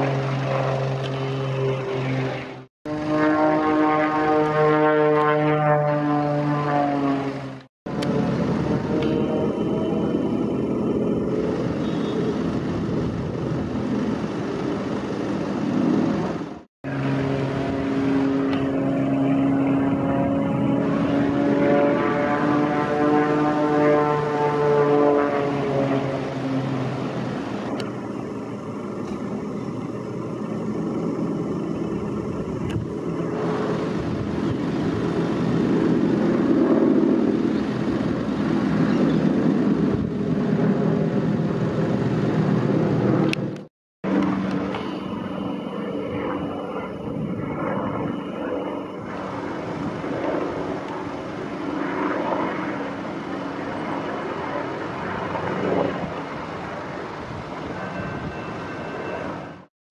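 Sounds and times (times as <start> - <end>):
propeller aircraft droning overhead: 0.0 - 59.7.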